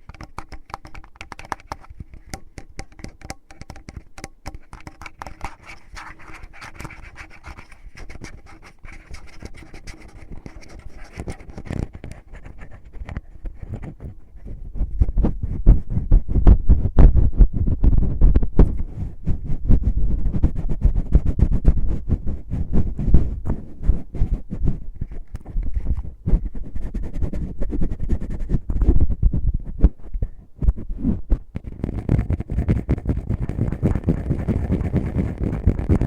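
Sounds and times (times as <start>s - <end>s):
fingers rubbing microphone: 0.0s - 36.0s.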